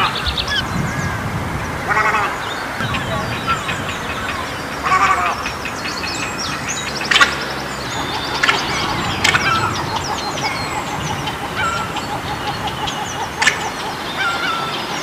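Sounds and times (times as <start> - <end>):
egrets chattering: 1.8 - 15.0.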